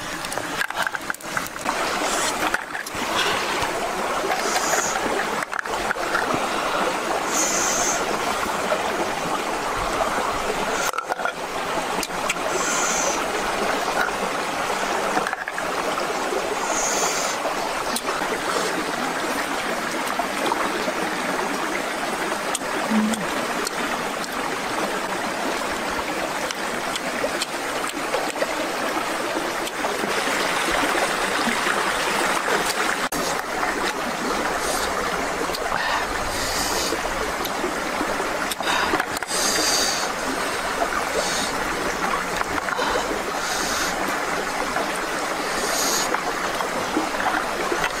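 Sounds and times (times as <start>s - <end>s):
stream water rushing: 0.0s - 48.0s.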